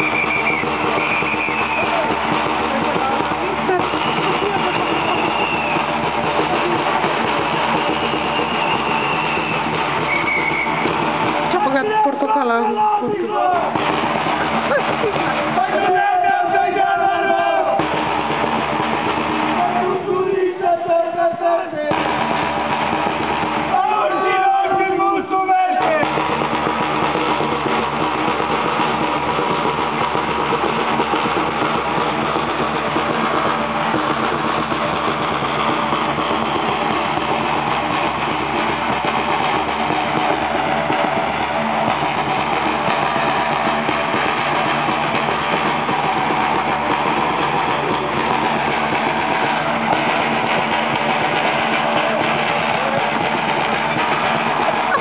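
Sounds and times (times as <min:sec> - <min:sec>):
large drums beating: 0:00.0 - 0:55.0.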